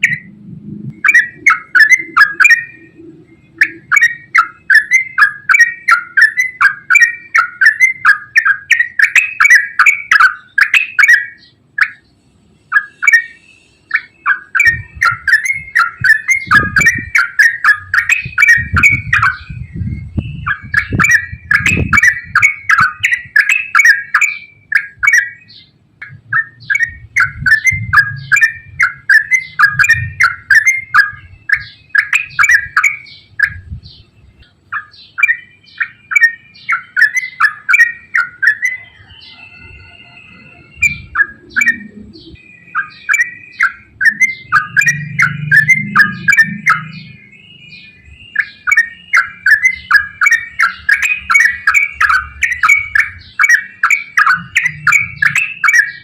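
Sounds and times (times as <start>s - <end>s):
bird singing bubbly chirps: 0.0s - 56.0s.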